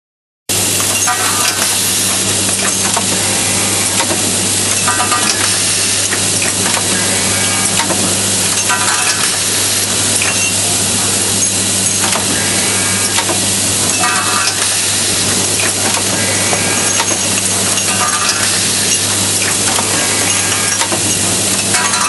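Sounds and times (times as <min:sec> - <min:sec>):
machine humming and hissing: 0:00.5 - 0:22.0
sharp machine clicks: 0:00.7 - 0:03.2, 0:03.8 - 0:07.0, 0:07.6 - 0:10.6, 0:11.4 - 0:22.0.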